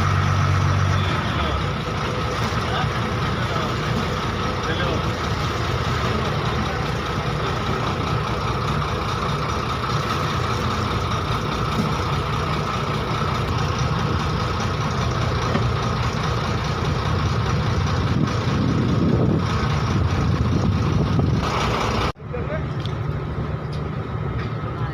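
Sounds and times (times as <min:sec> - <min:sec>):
heavy engine droning: 0:00.0 - 0:24.9.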